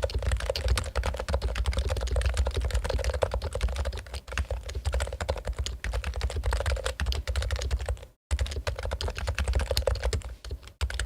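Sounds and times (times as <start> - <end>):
rapid keyboard typing: 0.0 - 11.0.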